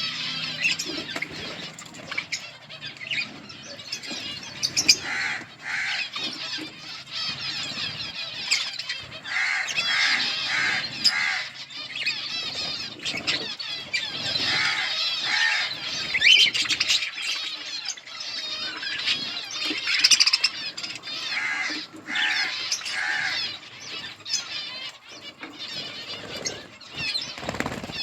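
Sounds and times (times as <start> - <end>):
budgerigars chirping and warbling: 0.0 - 28.0.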